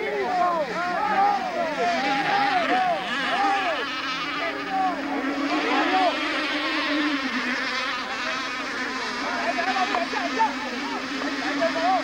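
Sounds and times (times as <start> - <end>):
model boat engines buzzing: 0.0 - 12.0.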